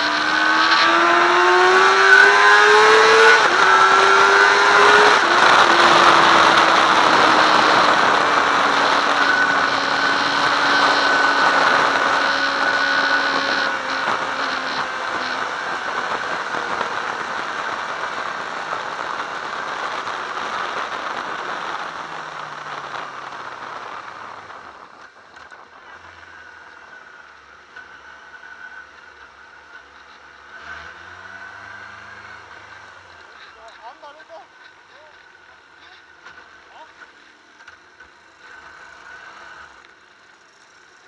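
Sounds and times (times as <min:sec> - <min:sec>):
motorcycle engine: 0:00.0 - 0:41.0.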